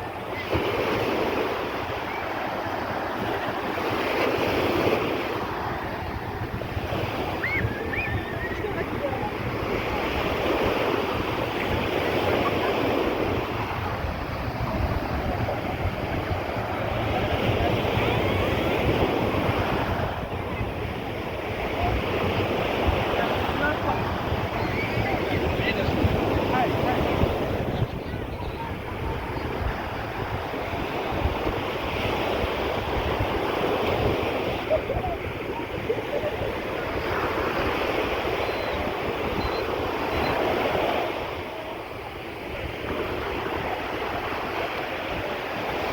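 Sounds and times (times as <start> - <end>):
sea waves washing onto beach: 0.0 - 45.9
wind buffeting microphone: 0.0 - 45.9.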